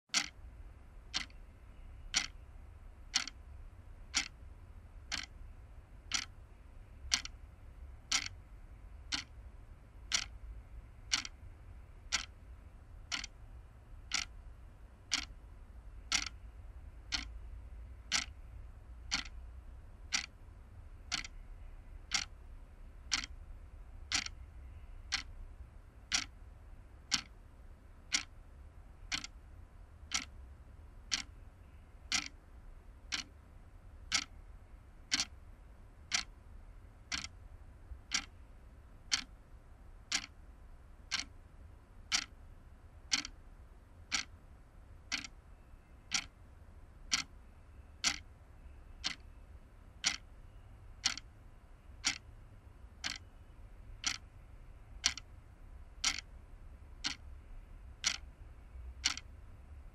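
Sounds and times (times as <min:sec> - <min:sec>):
wall clock ticking: 0:00.1 - 0:36.4, 0:37.0 - 0:44.4, 0:45.0 - 0:59.9.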